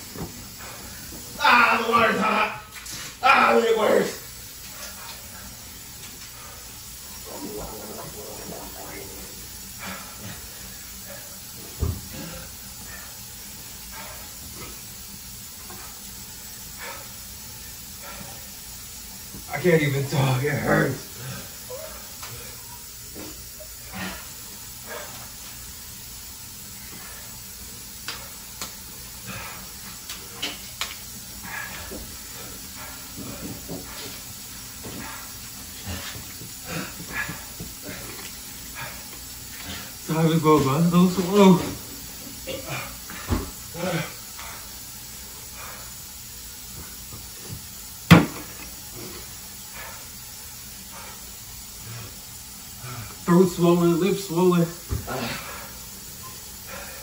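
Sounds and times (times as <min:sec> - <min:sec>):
man breathing hard and hissing: 0:00.0 - 0:01.4, 0:02.8 - 0:19.5, 0:20.6 - 0:48.0, 0:48.6 - 0:57.0
background hiss: 0:00.0 - 0:57.0.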